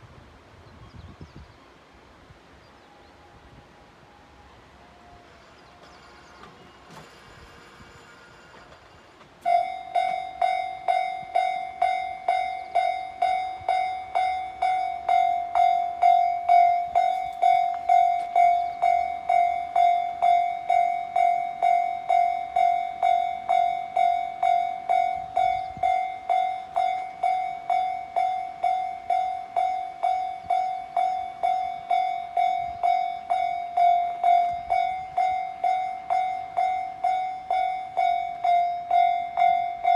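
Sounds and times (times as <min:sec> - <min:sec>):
level crossing warning bell ringing: 0:02.9 - 0:39.9.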